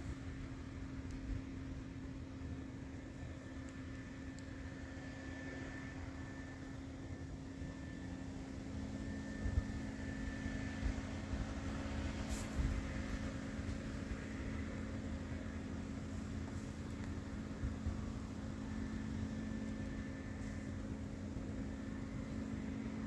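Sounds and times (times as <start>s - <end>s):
mechanical hum with high whine: 0.0s - 23.0s.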